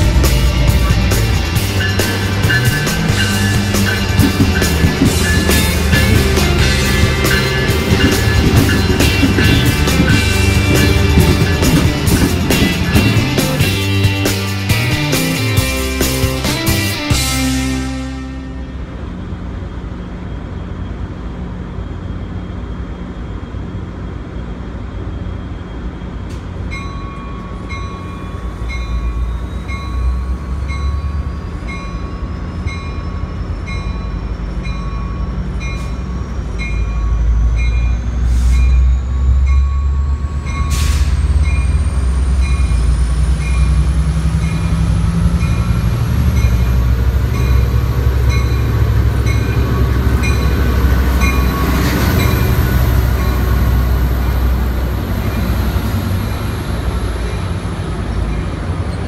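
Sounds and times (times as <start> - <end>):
locomotive bell ringing: 0.0 - 19.3, 26.6 - 59.0
diesel locomotive engine rumble: 0.0 - 59.0.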